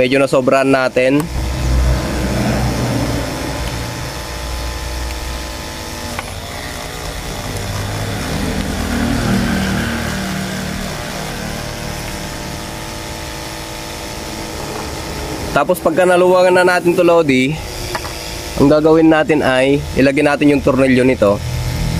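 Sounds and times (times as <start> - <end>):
electric drill running: 1.2 - 21.9.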